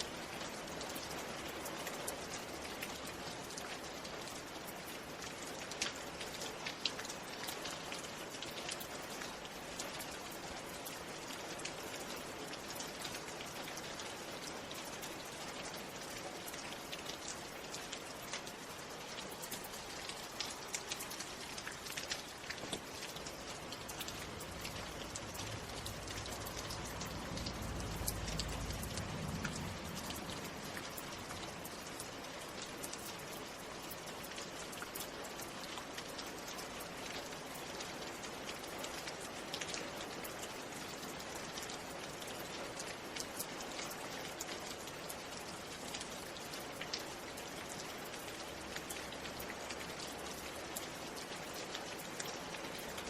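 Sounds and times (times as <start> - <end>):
raindrops ticking: 0.0 - 53.0
steady rain: 0.0 - 53.0.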